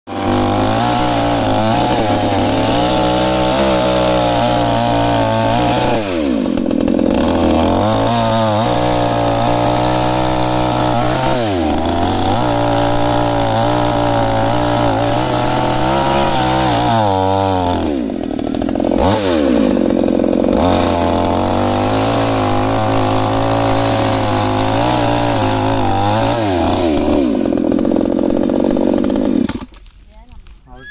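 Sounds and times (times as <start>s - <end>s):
chainsaw engine running: 0.1s - 30.0s.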